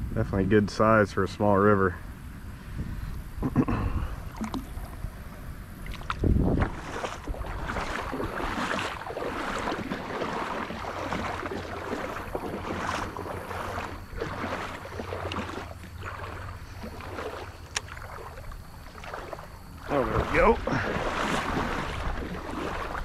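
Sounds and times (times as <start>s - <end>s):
water lapping around kayak: 0.8s - 23.0s.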